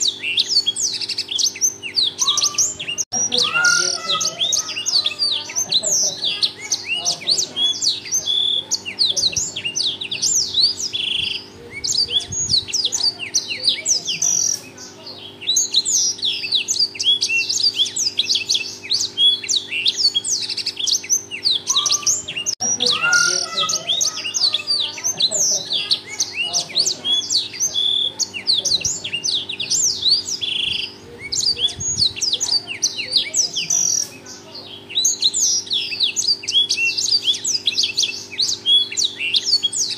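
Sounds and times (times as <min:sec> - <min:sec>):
canary singing: 0:00.0 - 0:39.9
faint steady hum: 0:00.0 - 0:39.9.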